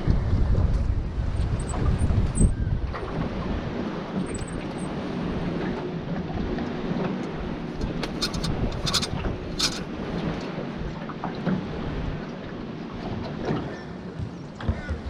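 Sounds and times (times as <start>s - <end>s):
low engine rumble: 0.0s - 13.4s
wind noise: 0.0s - 13.5s.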